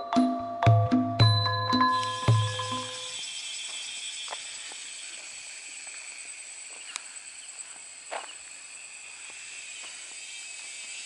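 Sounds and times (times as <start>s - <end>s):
insects buzzing: 2.0s - 11.0s.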